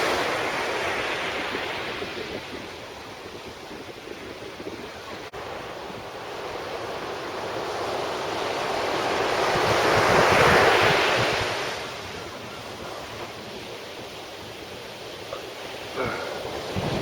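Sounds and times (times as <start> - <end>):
wind on microphone: 0.0 - 6.2, 7.4 - 15.4, 16.0 - 17.0
wave washing up beach: 0.0 - 17.0.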